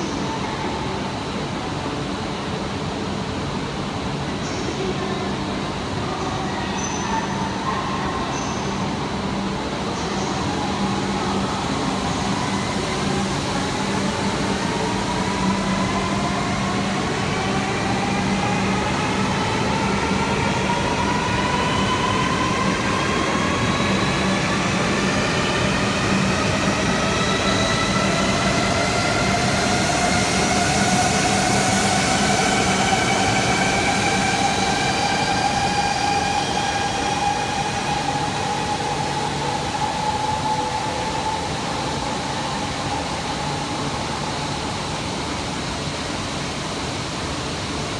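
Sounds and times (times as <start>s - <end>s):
train rumble: 0.0s - 47.9s.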